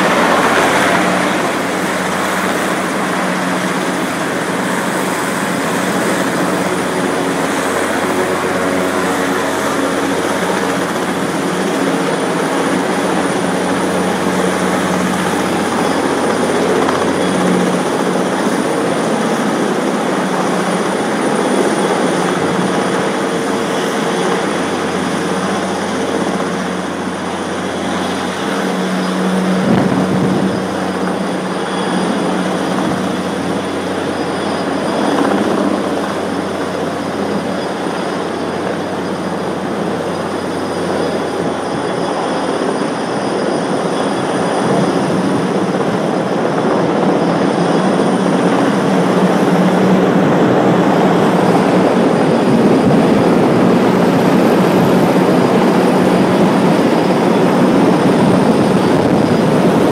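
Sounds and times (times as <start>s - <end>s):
helicopter rotor and turbines roaring: 0.0s - 59.9s.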